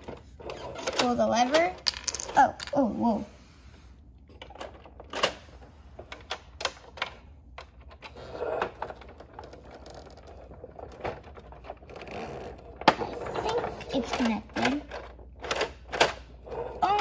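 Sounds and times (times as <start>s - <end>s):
plastic toy clicks and rattles: 0.0s - 2.8s, 6.1s - 17.0s.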